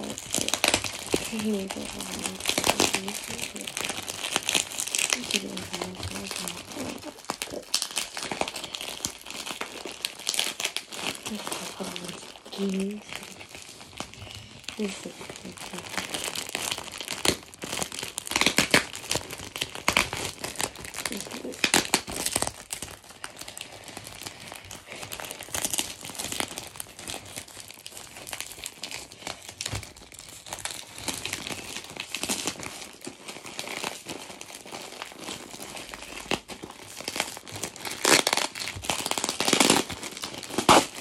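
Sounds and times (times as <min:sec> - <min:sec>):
parcel wrapping crinkling: 0:00.0 - 0:41.0.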